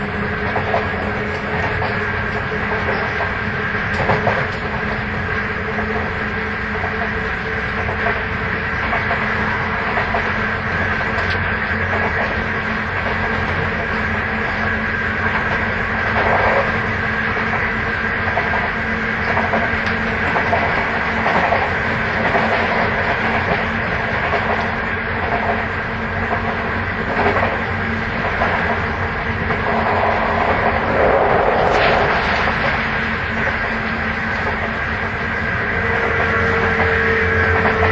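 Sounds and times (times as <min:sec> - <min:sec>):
rail joint clacks: 0:00.0 - 0:37.9
train motor high whine: 0:00.0 - 0:37.9
wheel and rail rumble: 0:00.0 - 0:37.9.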